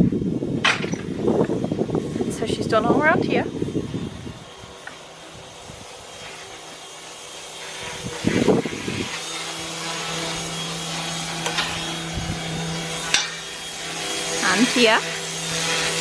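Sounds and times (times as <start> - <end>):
motor hum: 0.0 - 16.0
pressure washer jet hissing: 1.8 - 16.0.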